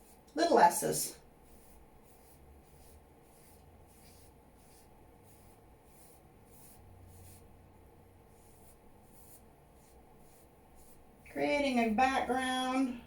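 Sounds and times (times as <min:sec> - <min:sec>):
paintbrush swishing on canvas: 0:00.0 - 0:07.7, 0:08.3 - 0:11.4.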